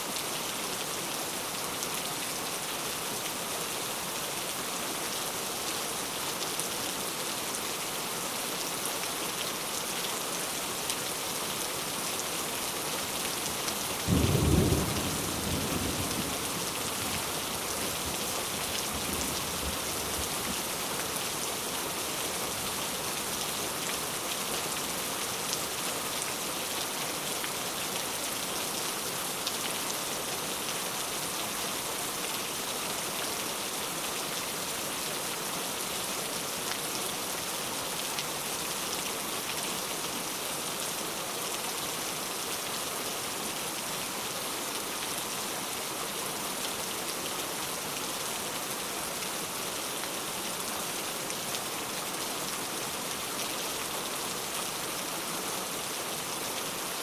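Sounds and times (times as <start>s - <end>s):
heavy rain falling: 0.1s - 57.0s.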